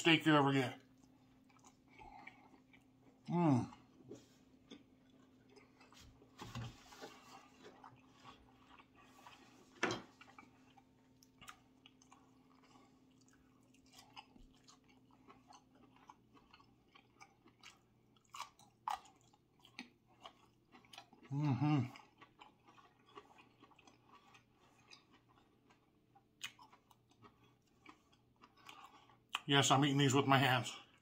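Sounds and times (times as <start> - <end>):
wet mouth chewing sounds: 0.8 - 6.4, 7.0 - 29.5.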